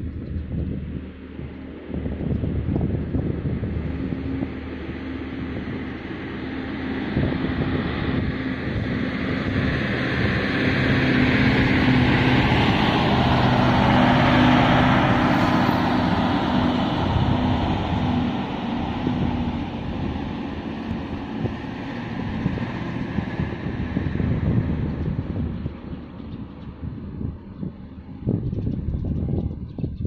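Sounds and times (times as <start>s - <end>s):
ship engine hum: 0.9s - 29.1s
rushing noise: 3.1s - 28.4s.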